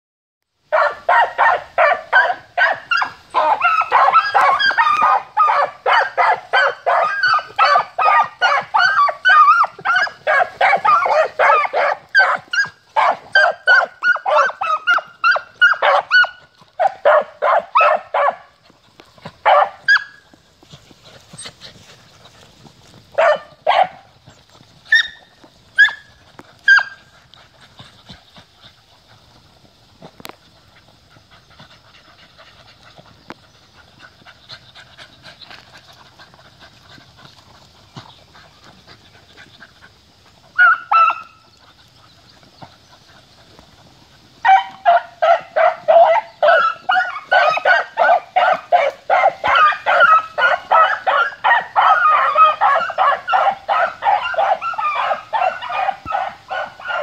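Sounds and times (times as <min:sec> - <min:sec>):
puppies barking and yelping: 0:00.8 - 0:28.0, 0:37.6 - 0:43.4, 0:44.2 - 0:57.0.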